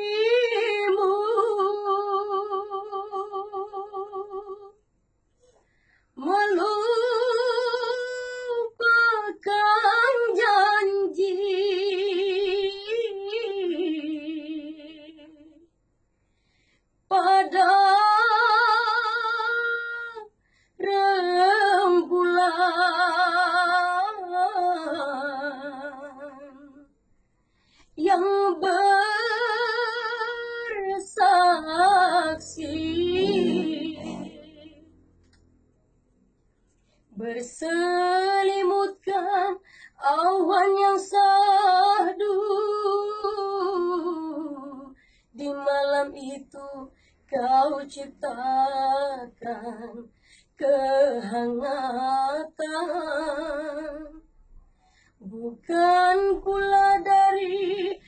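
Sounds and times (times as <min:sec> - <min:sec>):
woman singing unaccompanied: 0:00.0 - 0:04.7, 0:06.2 - 0:15.6, 0:17.1 - 0:26.9, 0:28.0 - 0:34.9, 0:37.2 - 0:54.2, 0:55.2 - 0:58.0.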